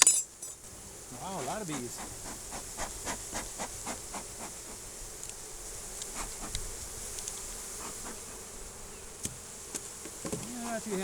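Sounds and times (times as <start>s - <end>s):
honeybees buzzing: 0.3s - 11.0s.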